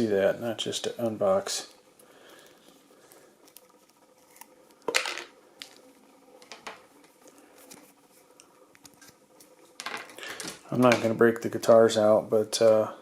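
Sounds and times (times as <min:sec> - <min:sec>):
cables rustling: 0:00.0 - 0:11.8.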